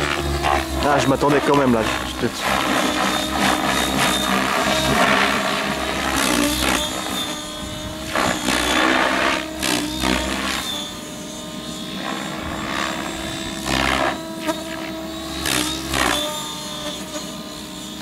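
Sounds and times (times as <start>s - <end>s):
rotor blades whooshing: 0.0s - 16.9s
helicopter rotor whine: 0.0s - 18.0s.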